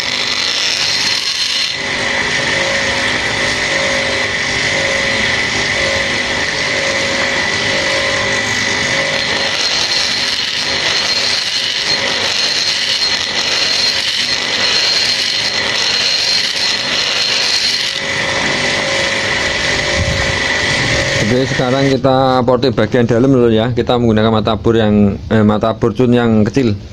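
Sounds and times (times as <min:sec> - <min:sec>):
burr rasping on metal: 0:00.0 - 0:22.0
die grinder whining: 0:00.0 - 0:22.2.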